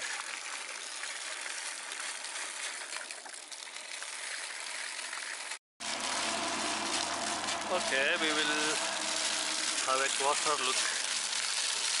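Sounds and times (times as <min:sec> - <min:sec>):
running water rushing: 0:01.2 - 0:12.0.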